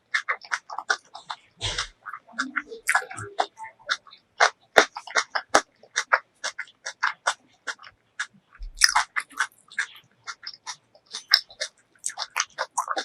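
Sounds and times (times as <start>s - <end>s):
wet chewing and mouth smacks: 0.0s - 13.0s.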